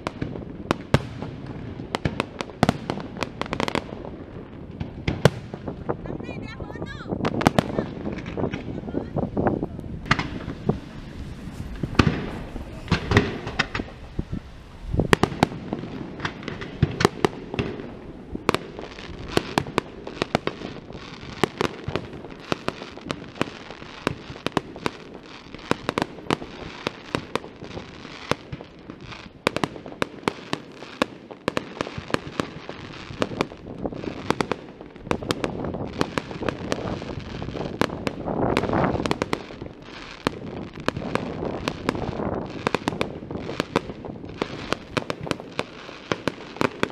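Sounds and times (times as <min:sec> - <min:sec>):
fireworks bursting with bangs: 0:00.0 - 0:46.9.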